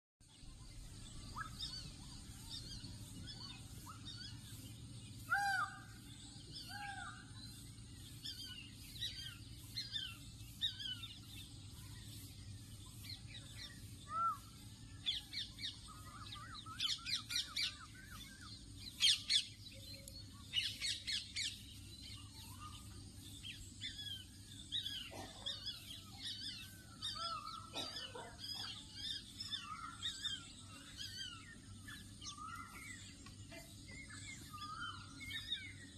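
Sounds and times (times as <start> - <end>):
birds chirping: 0.2 - 35.9
steady low hum: 0.3 - 35.9.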